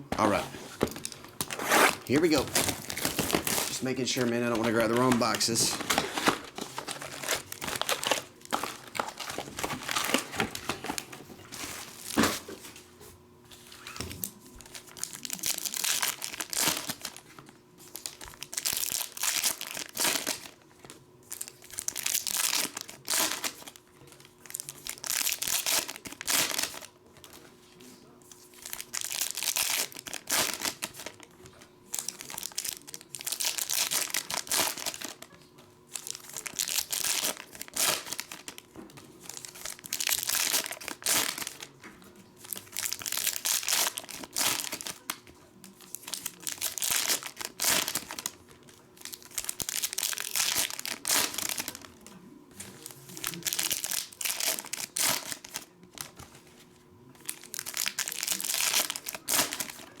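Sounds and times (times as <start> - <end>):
plastic wrapping crinkling and tearing: 0.2 - 12.7, 13.6 - 27.4, 28.0 - 41.8, 42.4 - 56.2, 57.1 - 60.0.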